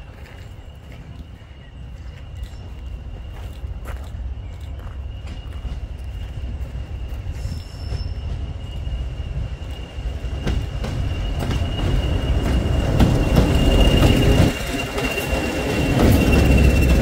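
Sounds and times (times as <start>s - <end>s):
diesel locomotive engine rumble: 0.0s - 17.0s
train wheels clicking: 0.0s - 17.0s.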